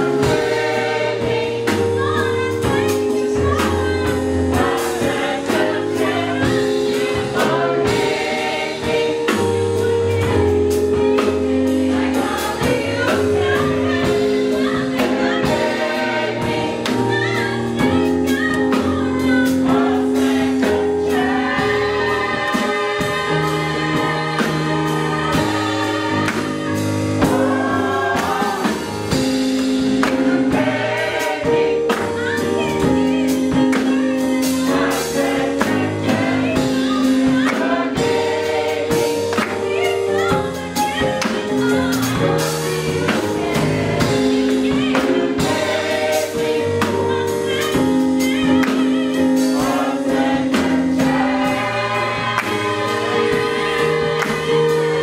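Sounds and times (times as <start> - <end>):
backing music with bass and beat: 0.0 - 55.0
choir singing gospel in harmony: 0.0 - 55.0.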